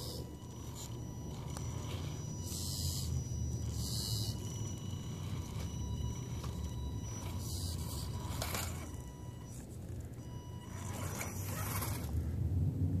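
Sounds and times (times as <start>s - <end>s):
electric motor whining: 0.0s - 12.2s.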